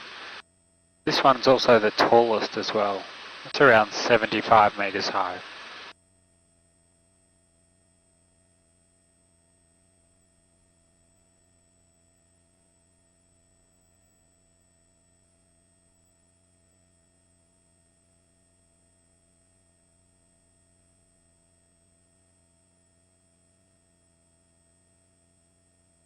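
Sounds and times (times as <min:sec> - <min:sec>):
faint electrical hum with whine: 0:00.0 - 0:26.0.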